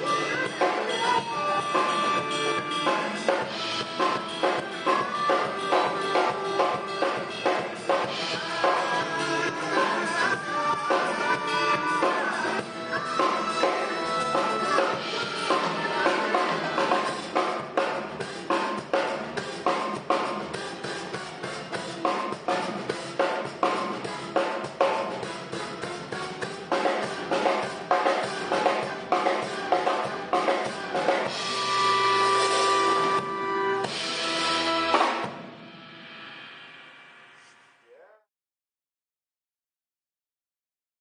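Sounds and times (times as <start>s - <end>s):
drum kit playing funk groove: 0.0s - 35.6s
funk band track with horns: 0.0s - 35.6s.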